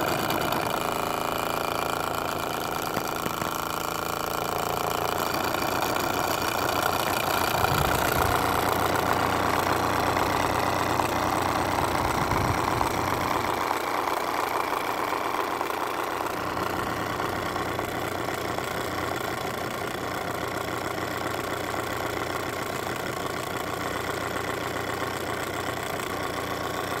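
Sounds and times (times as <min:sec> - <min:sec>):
toy steam engine chuffing: 0:00.0 - 0:27.0.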